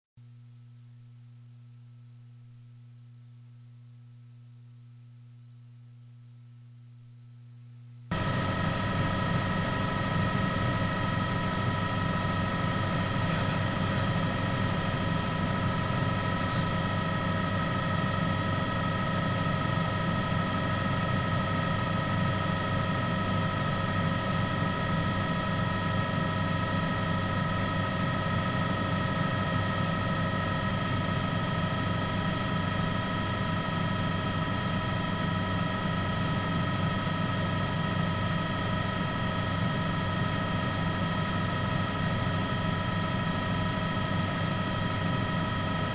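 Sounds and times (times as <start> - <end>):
helicopter engine and rotor: 8.1 - 45.9.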